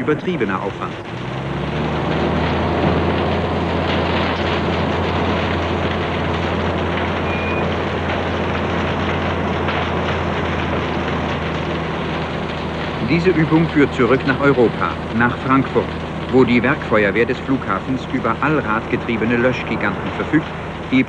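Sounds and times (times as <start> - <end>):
deep engine drone: 0.0 - 21.0.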